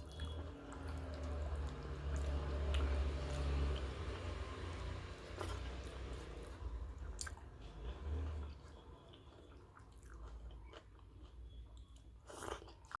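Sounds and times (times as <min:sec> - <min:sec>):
chewing food: 0:00.0 - 0:13.0.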